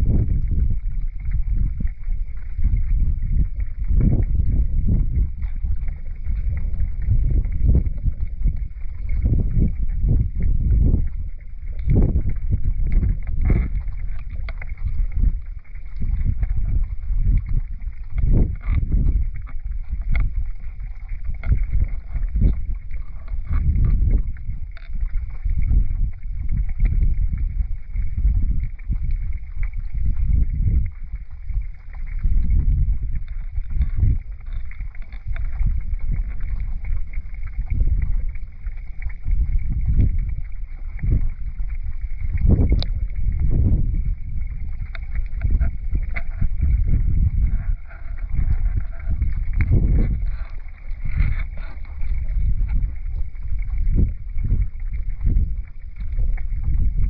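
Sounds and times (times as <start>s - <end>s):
muffled underwater river rumble: 0.0s - 57.0s.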